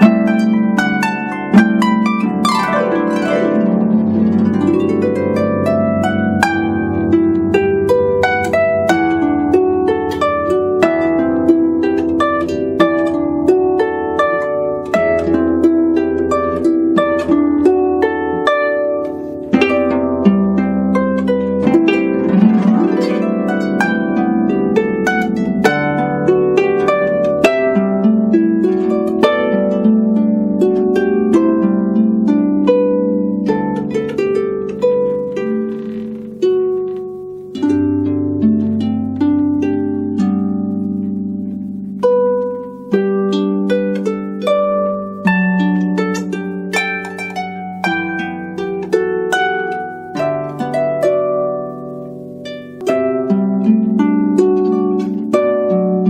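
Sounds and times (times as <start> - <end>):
harp playing: 0.0 - 56.0.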